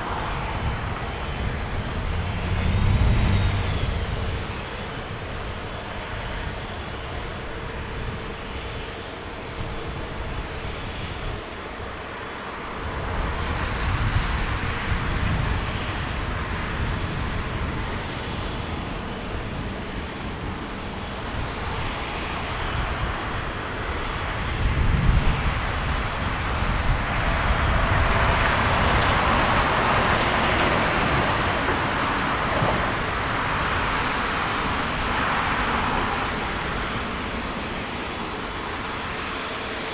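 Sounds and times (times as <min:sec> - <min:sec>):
jet engine noise: 0:00.0 - 0:39.9.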